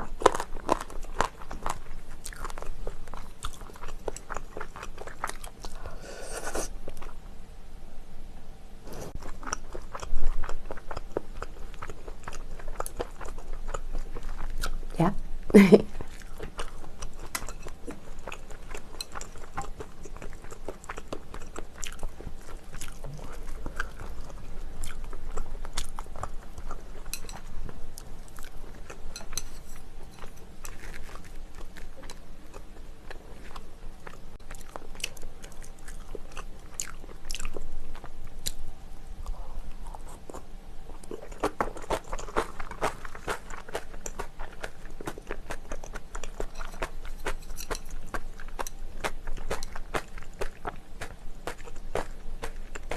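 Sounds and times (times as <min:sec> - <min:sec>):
person chewing crunchy food: 0:00.0 - 0:07.2, 0:08.9 - 0:14.8, 0:15.9 - 0:38.6, 0:39.2 - 0:52.9.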